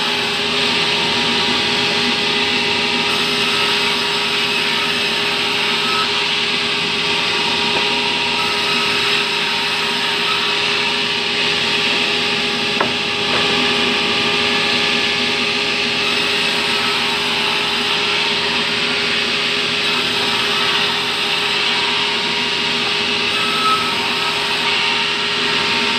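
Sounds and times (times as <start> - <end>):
band saw cutting wood: 0.0 - 25.9.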